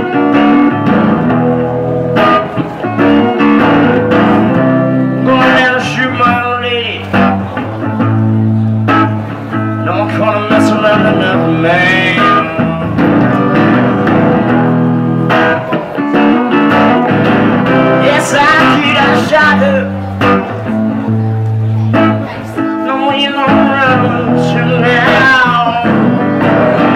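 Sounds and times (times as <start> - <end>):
band playing guitar music: 0.0 - 26.9
plucked guitar lines: 0.0 - 26.9.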